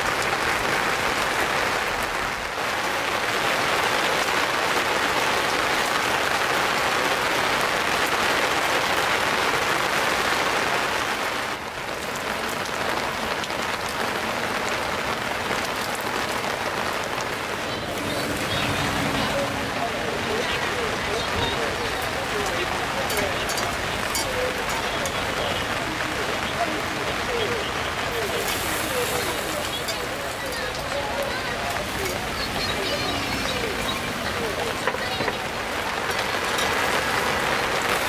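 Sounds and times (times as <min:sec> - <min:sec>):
rain falling steadily: 0:00.0 - 0:38.0.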